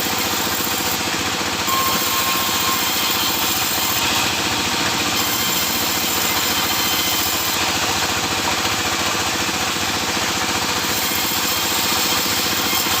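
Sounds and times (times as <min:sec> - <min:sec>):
sawmill saw rig running: 0:00.0 - 0:13.0.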